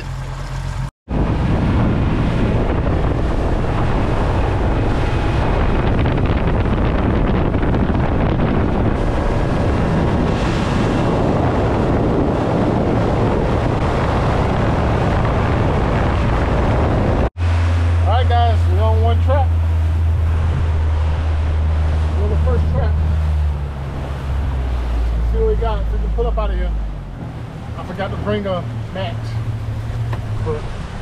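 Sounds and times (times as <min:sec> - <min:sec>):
boat wake churning: 0:00.0 - 0:31.0
motorboat engine: 0:00.0 - 0:31.0
wind across microphone: 0:01.1 - 0:31.0.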